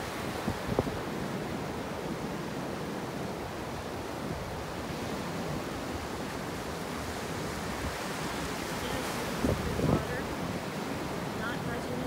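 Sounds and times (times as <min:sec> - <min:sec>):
ocean surf breaking: 0:00.0 - 0:12.0
wind rumbling on microphone: 0:00.0 - 0:12.0.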